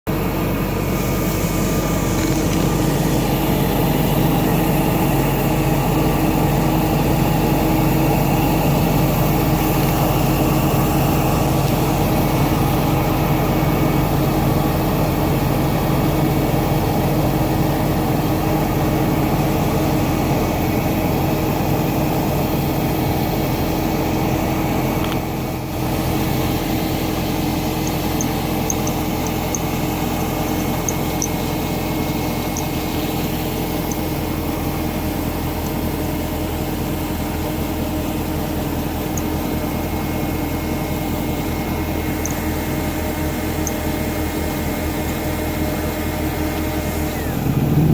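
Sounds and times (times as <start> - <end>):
car engine idling: 0.1 - 47.9.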